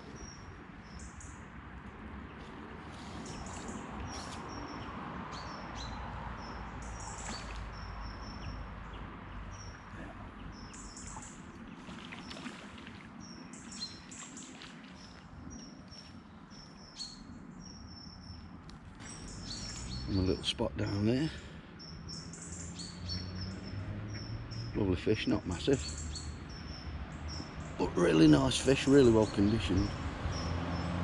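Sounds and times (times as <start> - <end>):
small birds chirping and singing: 0.0 - 1.4, 2.3 - 31.0.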